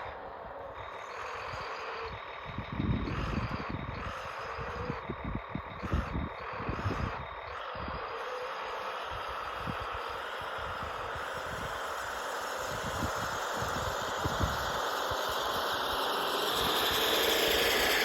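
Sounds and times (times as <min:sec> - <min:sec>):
motor and gear whine: 0:00.0 - 0:18.0.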